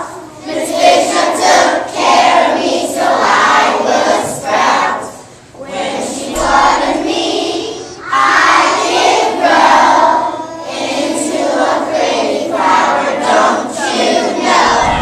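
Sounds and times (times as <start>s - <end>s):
children singing in unison: 0.0s - 15.0s.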